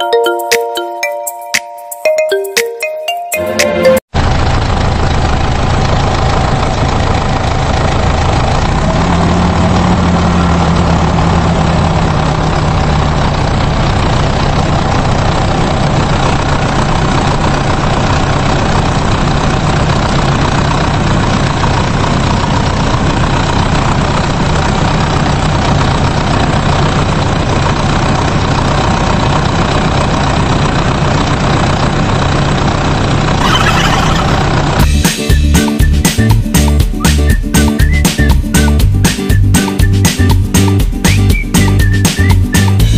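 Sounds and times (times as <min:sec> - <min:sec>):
truck engine idling: 0:04.1 - 0:42.9.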